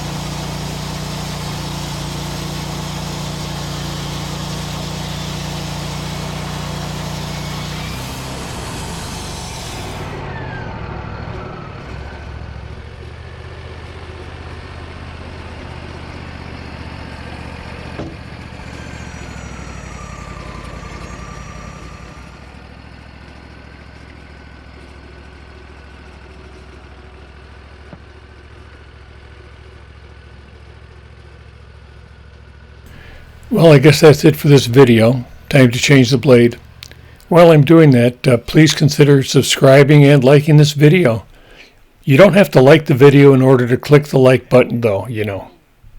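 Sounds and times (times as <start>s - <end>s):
sawmill engine running: 0.0s - 29.4s, 32.9s - 45.9s.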